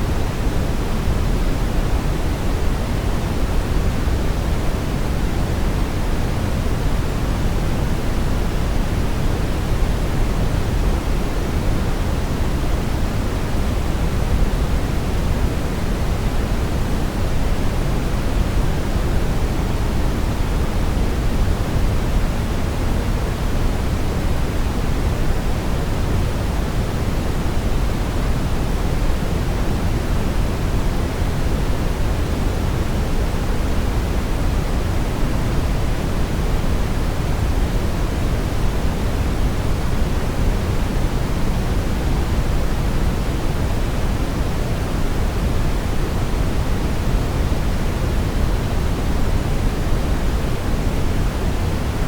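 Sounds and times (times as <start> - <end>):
brown noise hiss: 0.0 - 52.0.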